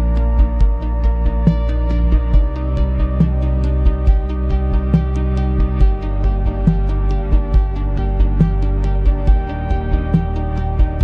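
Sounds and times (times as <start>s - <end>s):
steady low bass: 0.0s - 11.0s.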